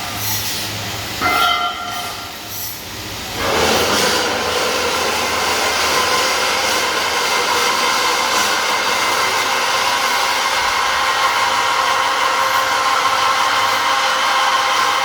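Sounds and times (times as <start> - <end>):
metal-working machinery hissing: 0.0 - 15.0.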